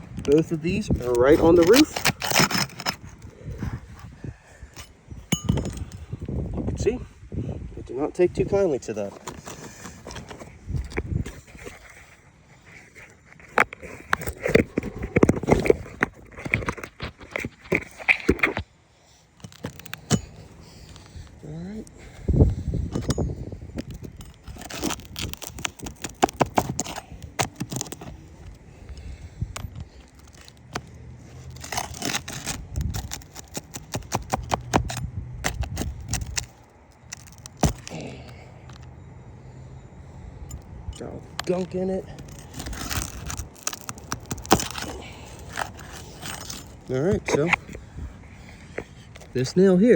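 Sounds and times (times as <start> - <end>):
metal scraping on shingles: 0.0 - 7.0, 8.1 - 49.9.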